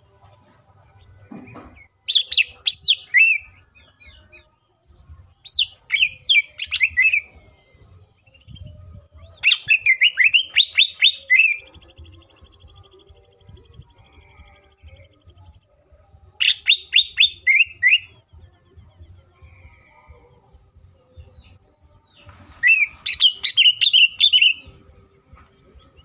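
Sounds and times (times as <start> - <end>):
bird singing whistled notes: 0.8 - 15.6, 16.4 - 20.6, 21.2 - 24.9.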